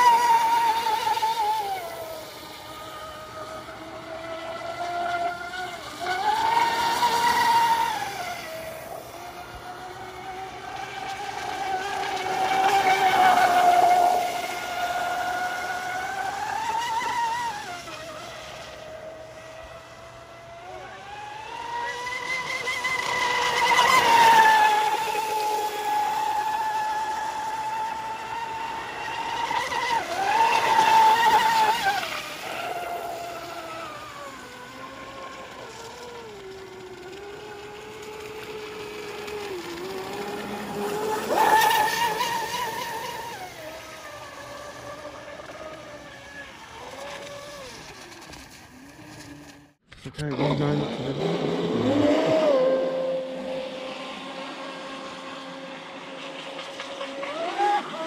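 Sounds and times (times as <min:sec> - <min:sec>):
rc boat motor whining: 0:00.0 - 0:58.0.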